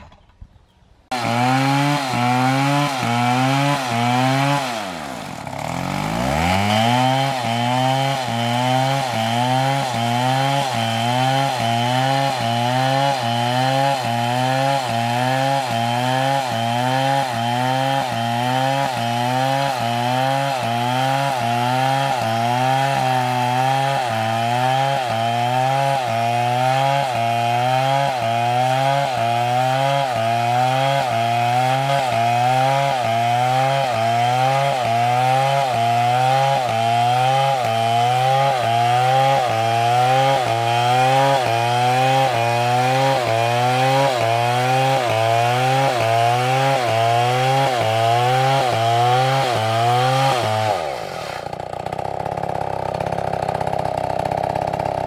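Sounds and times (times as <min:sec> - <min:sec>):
chainsaw cutting log: 0:01.1 - 0:55.0.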